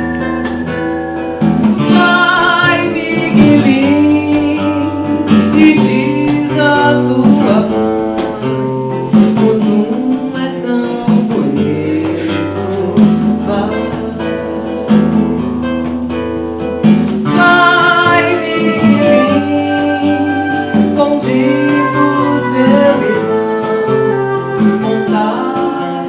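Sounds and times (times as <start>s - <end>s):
acoustic guitar chords: 0.0s - 26.0s
person singing: 1.8s - 15.0s, 17.3s - 26.0s.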